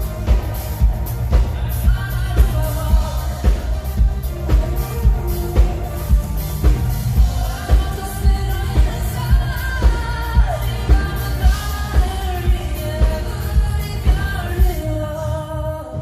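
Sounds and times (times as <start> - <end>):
pop-rock band playing live: 0.0 - 16.0.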